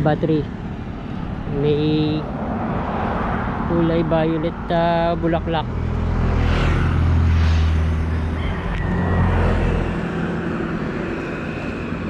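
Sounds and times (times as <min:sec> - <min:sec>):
city street traffic: 0:00.0 - 0:12.0
vehicle engine rumbling: 0:00.0 - 0:12.0.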